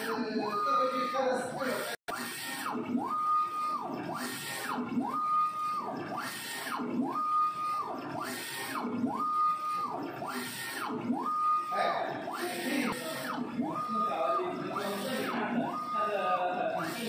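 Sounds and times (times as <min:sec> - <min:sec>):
printer carriage motor whining: 0:00.0 - 0:17.0.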